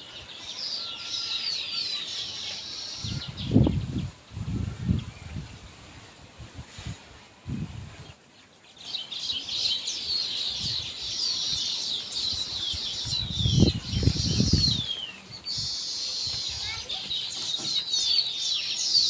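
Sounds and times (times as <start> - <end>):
flock of small birds chirping: 0.0 - 19.0.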